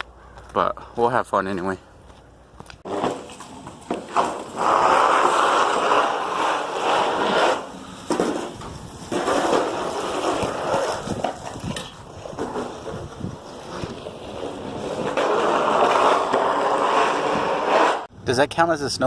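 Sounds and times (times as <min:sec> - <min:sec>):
snow crunching and scraping: 0:02.8 - 0:18.1.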